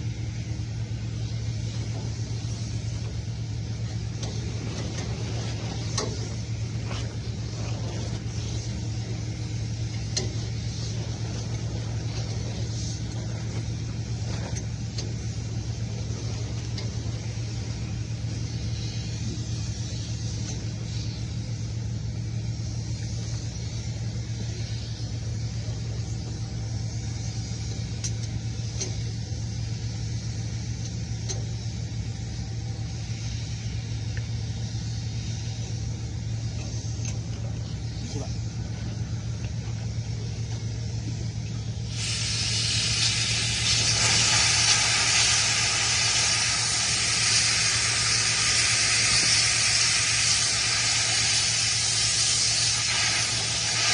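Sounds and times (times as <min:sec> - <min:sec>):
machine low drone: 0:00.0 - 0:53.9.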